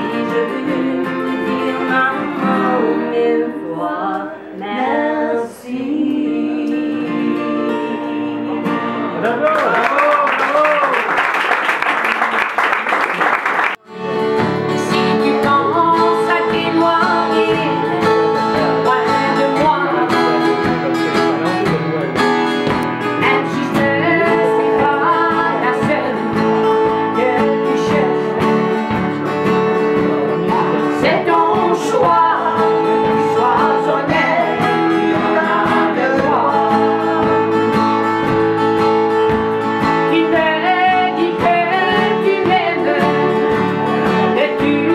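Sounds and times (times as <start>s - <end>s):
woman singing: 0.0s - 8.9s, 14.6s - 20.8s, 23.2s - 44.9s
acoustic guitars strumming: 0.0s - 9.9s, 13.8s - 44.9s.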